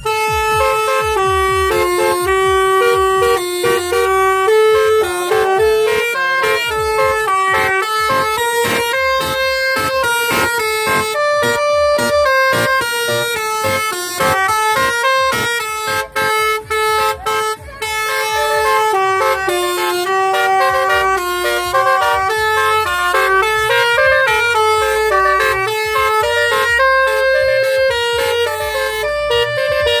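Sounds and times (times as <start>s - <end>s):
melody horn playing a tune: 0.0s - 30.0s.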